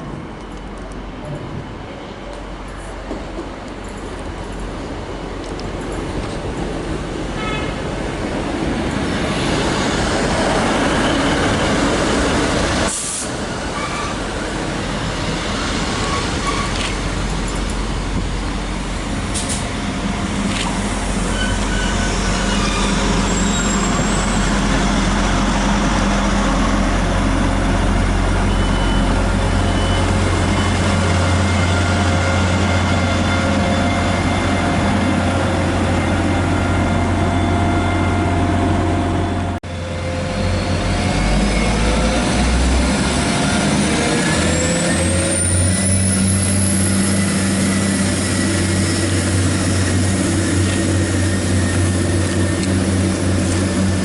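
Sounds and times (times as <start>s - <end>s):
train engine low hum: 0.0s - 54.0s
train running past: 0.0s - 54.0s.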